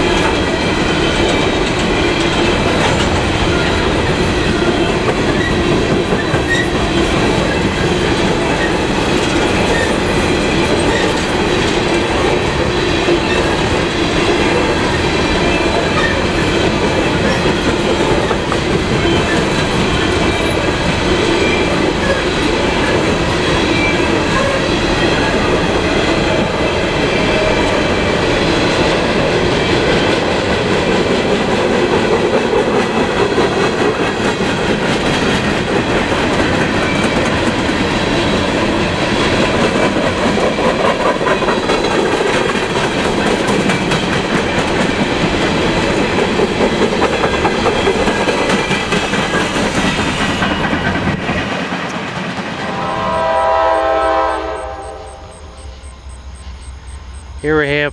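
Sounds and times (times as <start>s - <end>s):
wheels clacking over rail joints: 0.0s - 54.3s
train wheels rumbling on rails: 0.0s - 57.9s.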